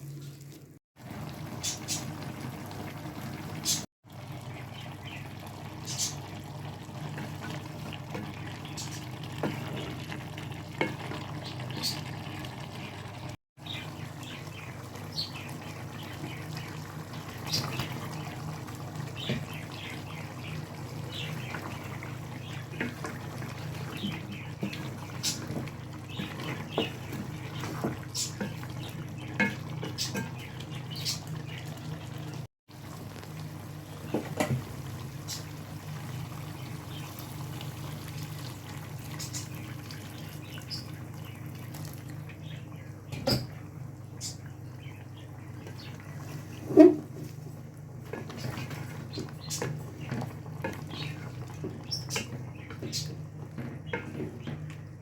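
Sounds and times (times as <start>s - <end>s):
curry bubbling in a pan: 0.0s - 55.0s.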